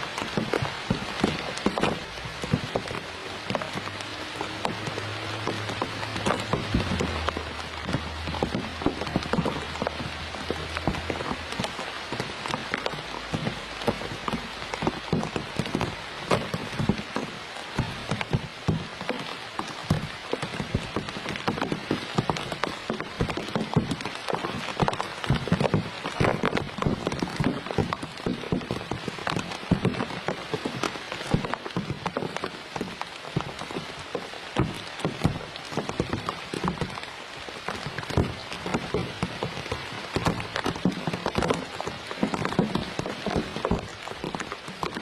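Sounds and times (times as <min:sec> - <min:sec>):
rain pattering: 0:00.0 - 0:45.0.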